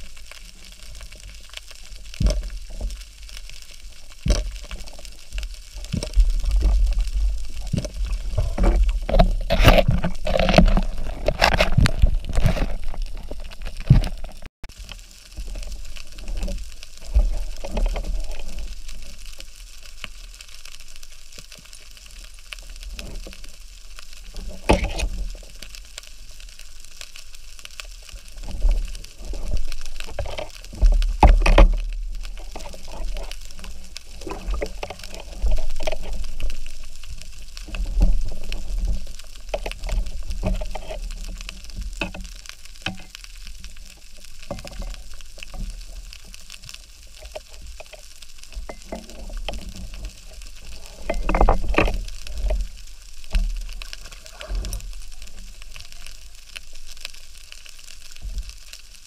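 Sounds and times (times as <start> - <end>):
crackling: 0.0 - 59.0
water swishing underwater: 0.0 - 59.0.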